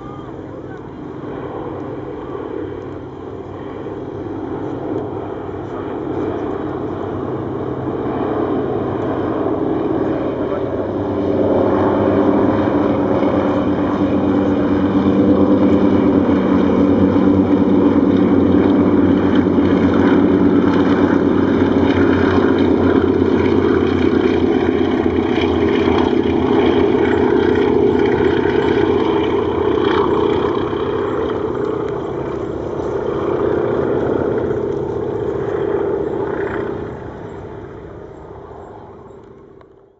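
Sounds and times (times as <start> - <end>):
propeller planes droning: 0.0 - 39.9.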